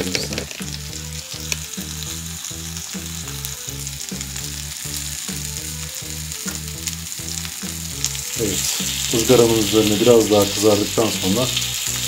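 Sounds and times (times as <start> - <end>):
background music with beat: 0.0 - 12.0
meat sizzling on a grill: 0.0 - 12.0.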